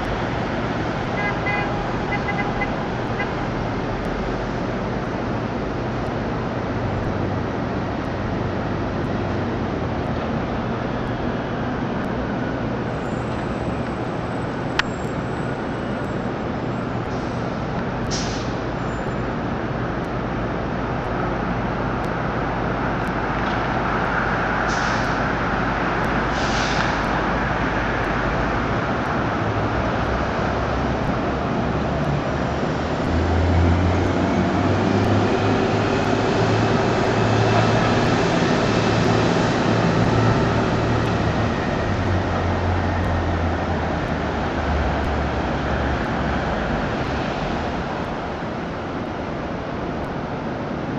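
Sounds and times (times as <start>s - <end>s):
city traffic noise: 0.0s - 50.9s
heavy vehicle engine drone: 0.0s - 50.9s.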